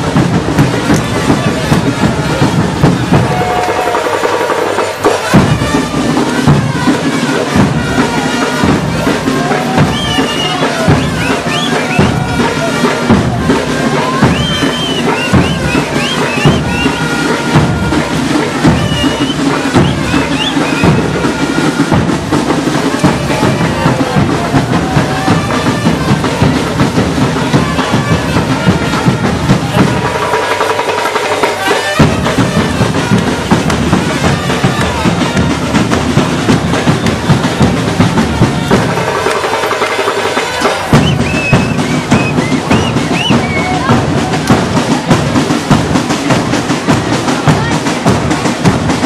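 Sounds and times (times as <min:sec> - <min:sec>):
carnival dance music with drums: 0:00.0 - 0:49.0.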